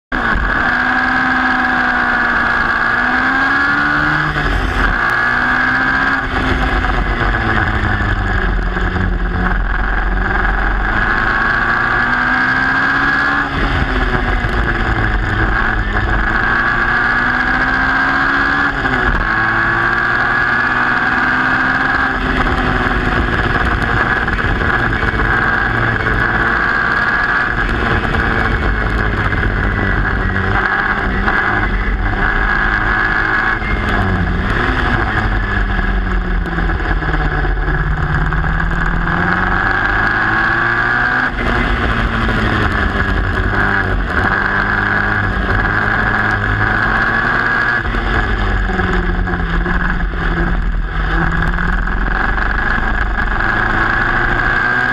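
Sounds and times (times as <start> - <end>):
race car engine revving: 0.1 - 54.9.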